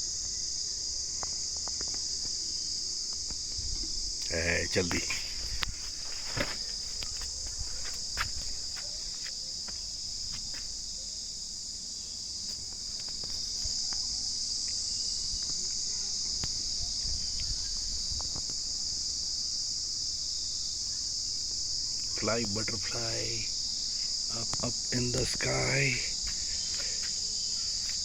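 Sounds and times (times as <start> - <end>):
insects chirping: 0.0 - 28.0.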